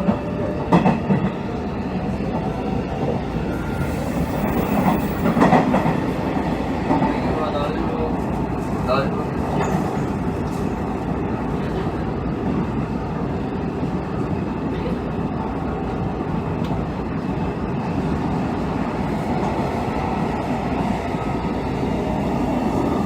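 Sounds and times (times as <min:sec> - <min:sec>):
train interior rumble: 0:00.0 - 0:23.0.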